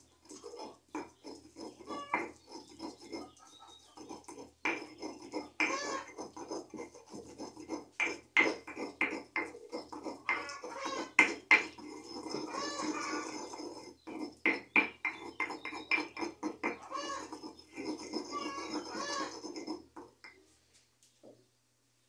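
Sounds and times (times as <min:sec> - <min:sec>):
stone pestle grinding: 0:00.0 - 0:20.4
stone pestle knocking: 0:00.4 - 0:03.3, 0:04.0 - 0:20.4.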